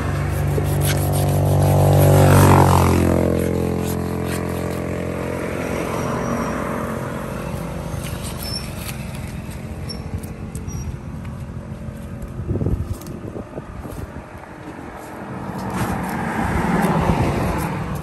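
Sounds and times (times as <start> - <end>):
vehicle engine passing by: 0.0 - 18.0.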